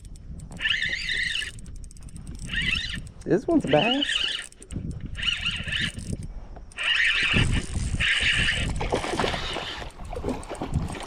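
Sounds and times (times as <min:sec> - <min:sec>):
fishing reel whirring: 0:00.0 - 0:11.0
water noise: 0:00.0 - 0:11.0.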